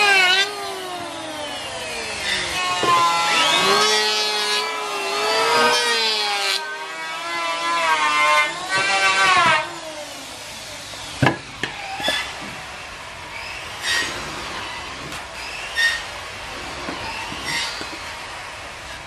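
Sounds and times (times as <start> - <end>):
electric hand planer whining: 0.0 - 19.0.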